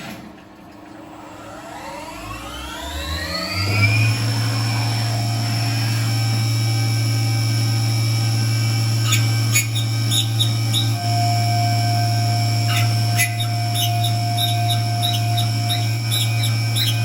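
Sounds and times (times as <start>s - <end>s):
electric motor whining: 1.8s - 17.0s.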